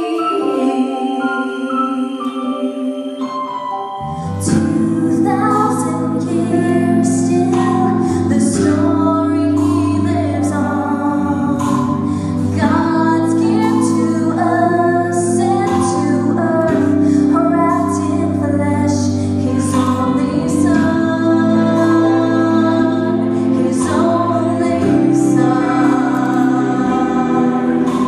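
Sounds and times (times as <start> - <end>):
held instrumental accompaniment: 0.0 - 28.0.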